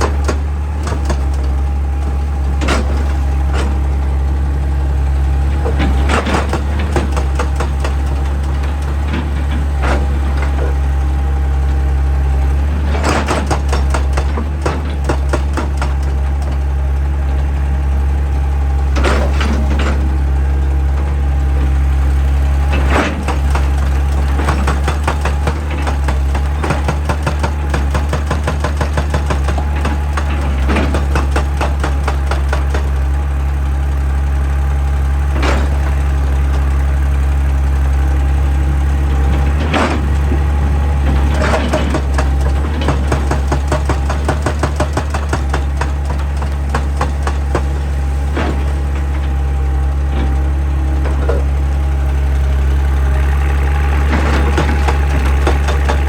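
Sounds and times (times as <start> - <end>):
hydraulic breaker hammering rock: 0.0 - 4.6, 5.4 - 17.5, 22.6 - 33.6, 35.2 - 37.3, 38.1 - 56.0
excavator diesel engine humming: 0.0 - 56.0.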